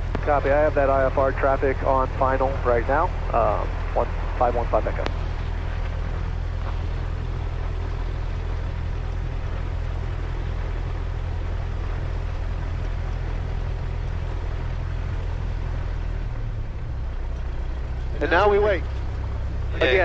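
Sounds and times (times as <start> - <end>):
aircraft engine idling: 0.0 - 20.0.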